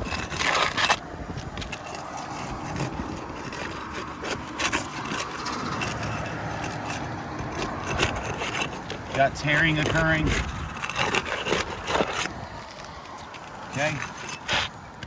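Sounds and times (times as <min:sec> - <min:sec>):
shingles scraped apart: 0:00.0 - 0:14.8.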